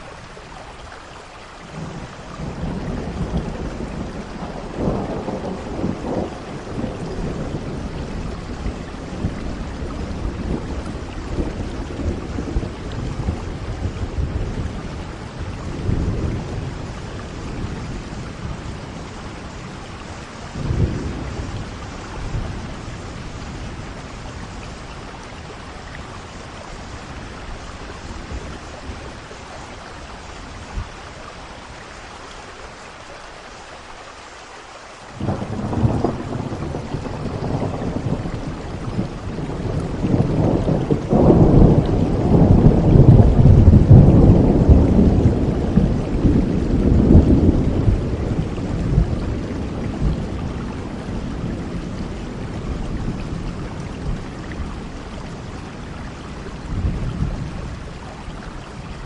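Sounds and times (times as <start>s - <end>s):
steady rain: 0.0s - 59.0s
thunder rumbling: 1.7s - 31.7s, 35.1s - 59.0s.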